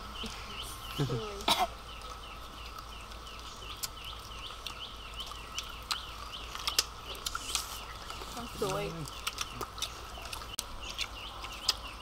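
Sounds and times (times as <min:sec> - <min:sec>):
crunching fried chicken: 0:02.0 - 0:12.0.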